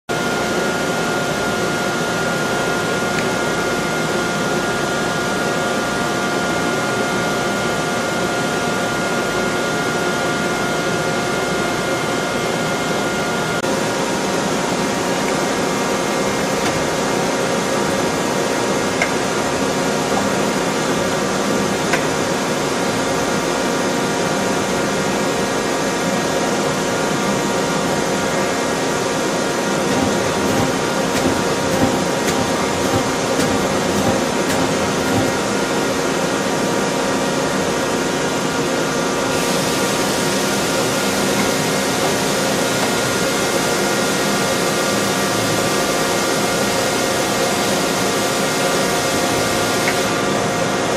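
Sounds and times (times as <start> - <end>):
machine hum and whine: 0.1 - 50.9.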